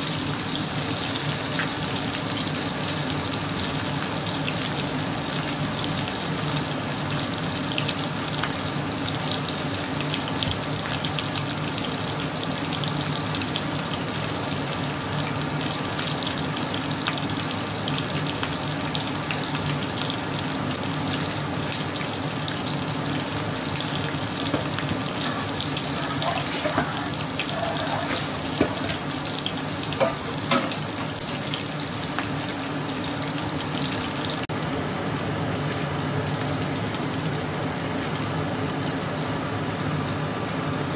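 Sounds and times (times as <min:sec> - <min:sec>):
fish sizzling in hot oil: 0:00.0 - 0:40.9.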